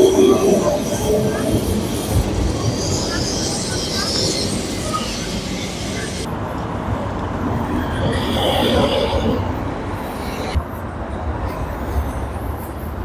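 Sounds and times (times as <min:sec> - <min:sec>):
city street traffic: 0:00.0 - 0:13.0
tram passing: 0:00.0 - 0:13.0.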